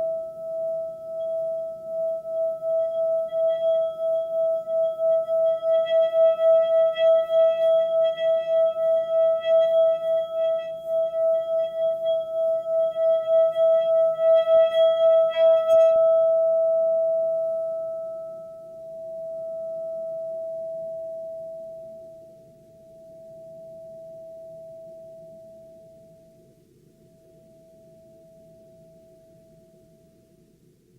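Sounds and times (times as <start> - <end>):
singing bowl ringing: 0.0 - 30.4.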